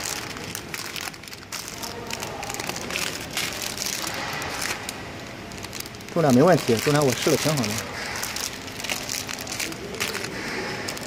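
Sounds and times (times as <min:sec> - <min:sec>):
plastic packaging crinkling: 0:00.0 - 0:11.0
steady background noise: 0:00.0 - 0:11.0.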